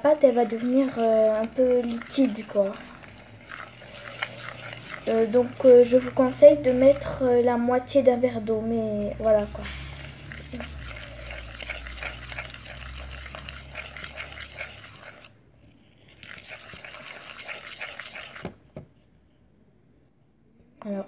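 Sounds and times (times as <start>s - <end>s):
dough stirred in bowl: 0.0s - 19.2s.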